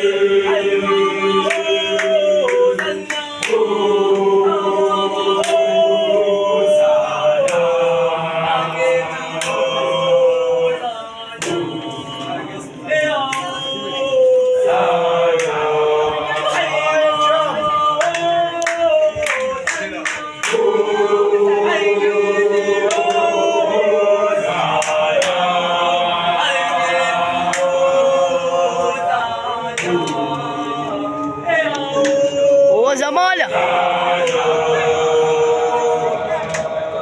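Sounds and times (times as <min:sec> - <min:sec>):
group singing a cappella: 0:00.0 - 0:37.0.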